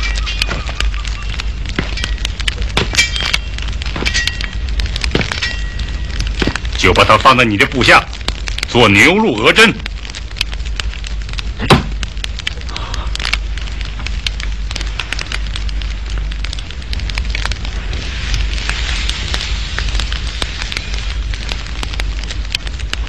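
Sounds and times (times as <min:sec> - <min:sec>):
steady crackling: 0:00.0 - 0:23.0.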